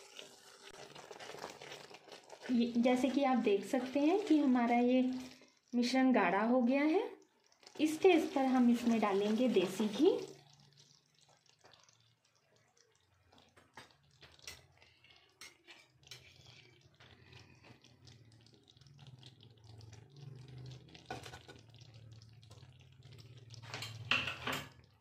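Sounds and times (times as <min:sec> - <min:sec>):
syrup bubbling and popping: 0:00.0 - 0:25.0.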